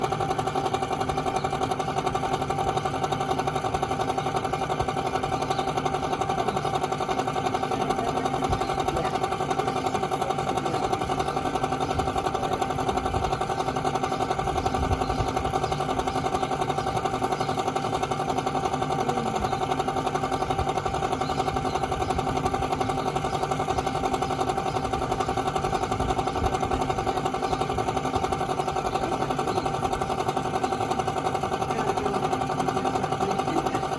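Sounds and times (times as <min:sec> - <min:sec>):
air conditioner whining: 0:00.0 - 0:33.9
fan motor rattling: 0:00.0 - 0:33.9.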